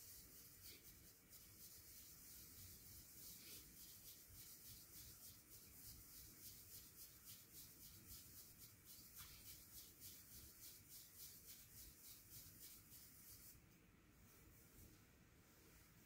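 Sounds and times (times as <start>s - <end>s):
tea whisk scratching in a bowl: 0.0s - 13.6s.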